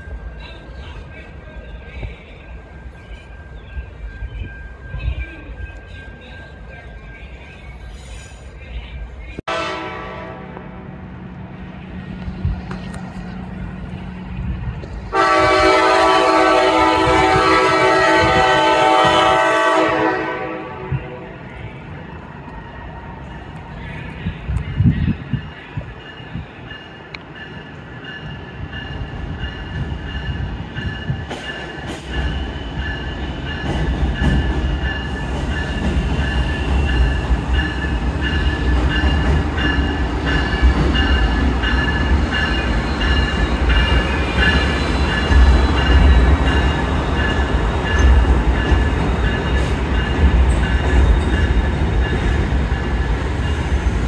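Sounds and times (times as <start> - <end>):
train rumbling over bridge: 0.0 - 54.0.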